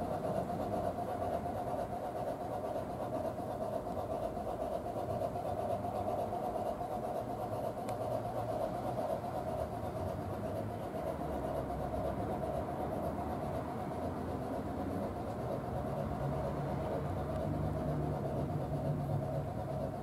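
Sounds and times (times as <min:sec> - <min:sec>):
model locomotive working sound: 0:00.0 - 0:20.0.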